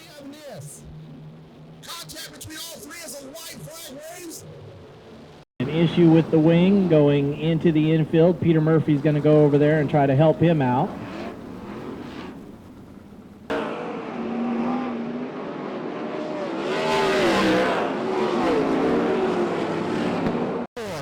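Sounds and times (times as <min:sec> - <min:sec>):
race car engines passing: 0:03.2 - 0:21.0.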